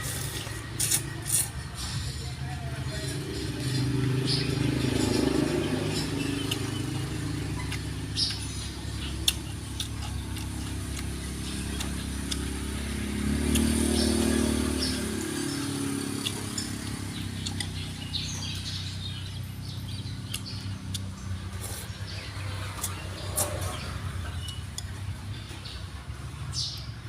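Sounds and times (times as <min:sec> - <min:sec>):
motor engine humming: 0:00.0 - 0:26.5.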